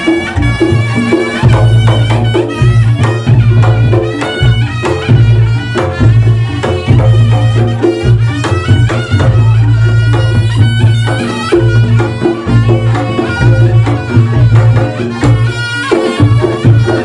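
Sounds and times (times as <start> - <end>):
fast drumming: 0.0 - 17.0
reedy shawm melody: 0.0 - 17.0.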